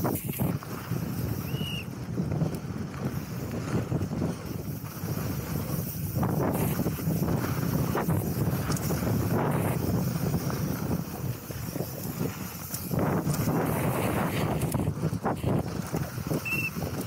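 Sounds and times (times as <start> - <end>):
bike rattling over bumps: 0.0 - 17.0
tyres on loose dirt: 0.0 - 17.0
wind buffeting microphone: 0.0 - 17.0.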